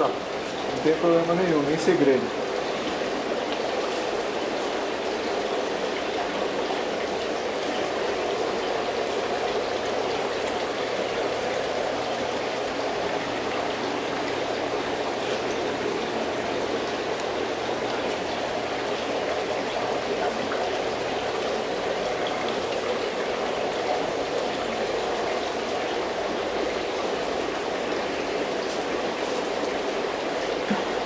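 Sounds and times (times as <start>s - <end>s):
rushing aquarium water: 0.0s - 31.0s.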